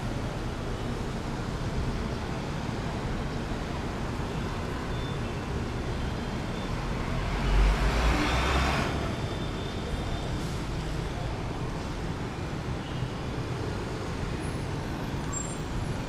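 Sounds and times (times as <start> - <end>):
city road traffic hum: 0.0 - 16.0.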